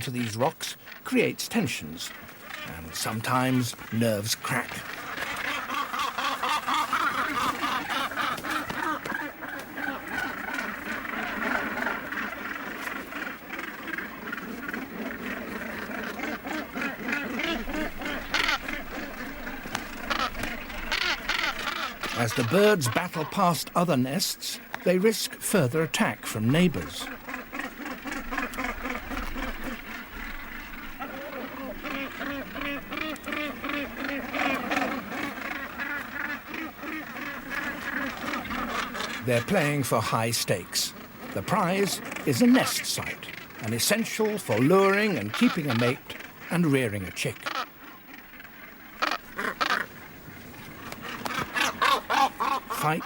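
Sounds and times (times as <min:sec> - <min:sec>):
gannets harsh rasping calls: 0:00.0 - 0:53.0.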